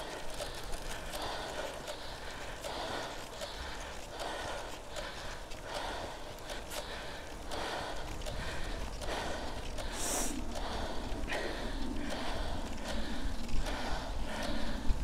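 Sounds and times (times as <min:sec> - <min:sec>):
heavy rhythmic breathing: 0:00.0 - 0:15.0.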